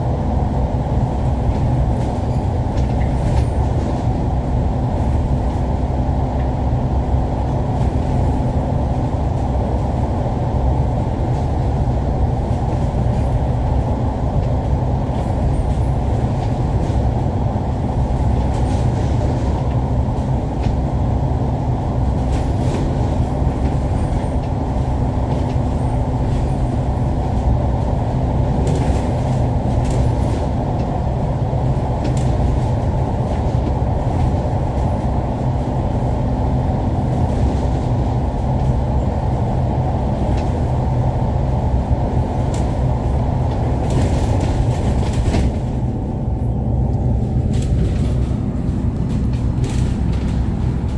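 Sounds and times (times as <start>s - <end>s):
bus engine and tyres rumble: 0.0s - 50.9s.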